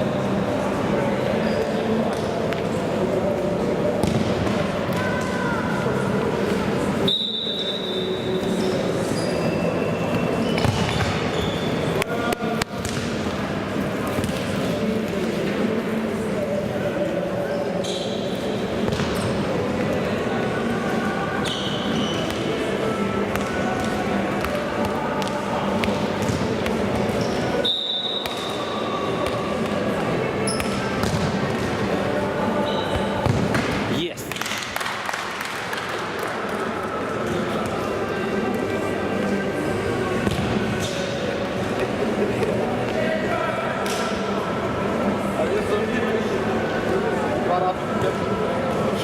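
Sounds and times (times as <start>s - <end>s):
players' voices: 0.0s - 49.0s.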